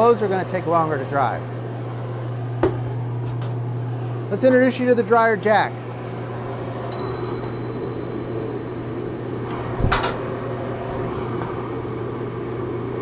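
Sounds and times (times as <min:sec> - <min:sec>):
dryer blower humming: 0:00.0 - 0:13.0.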